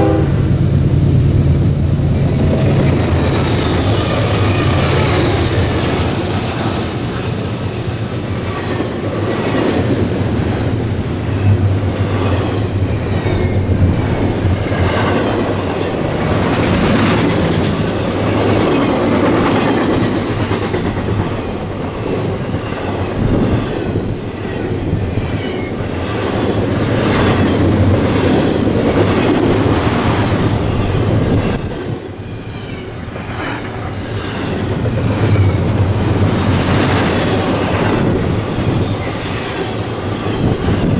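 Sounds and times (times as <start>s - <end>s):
train rumble: 0.0s - 40.9s
train wheels clicking over rail joints: 2.1s - 40.9s.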